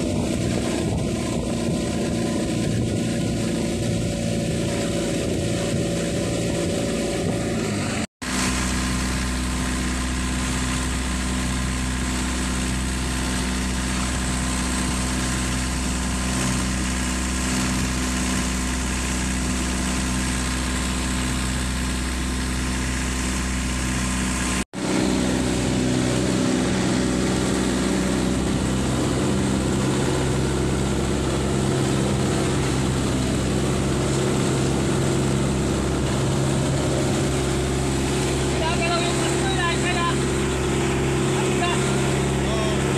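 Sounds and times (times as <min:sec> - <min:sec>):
diesel boat engine running: 0:00.0 - 0:42.9.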